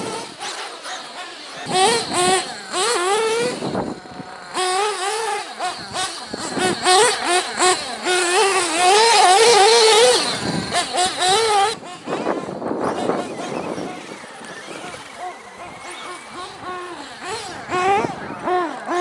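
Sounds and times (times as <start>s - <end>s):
model car engine whining: 0.0s - 19.0s.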